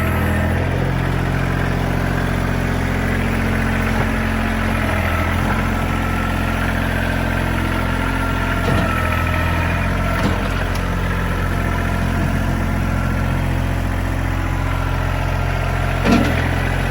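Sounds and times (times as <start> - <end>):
tractor diesel engine idling: 0.0 - 16.9.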